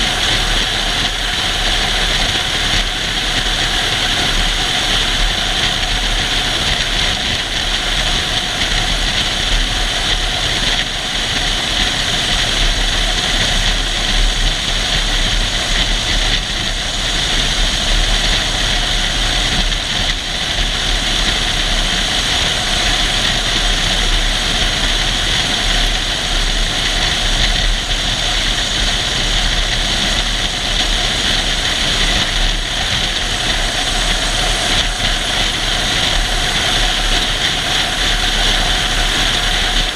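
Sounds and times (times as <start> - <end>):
jeep engine rumbling: 0.0 - 39.9.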